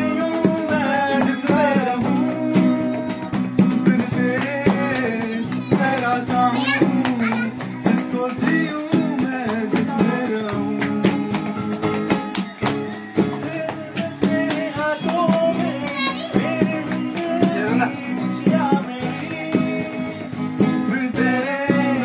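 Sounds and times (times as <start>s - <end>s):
acoustic guitar strumming: 0.0s - 22.0s
young men singing: 0.0s - 22.0s.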